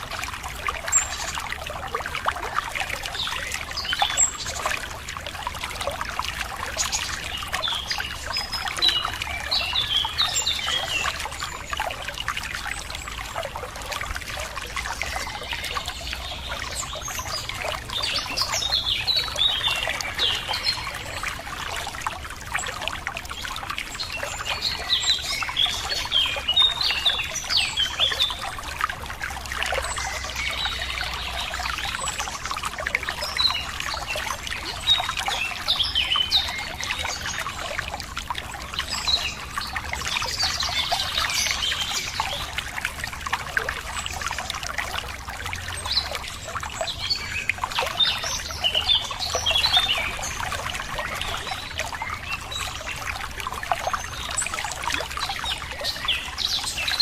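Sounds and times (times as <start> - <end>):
stream trickling and splashing: 0.0 - 57.0.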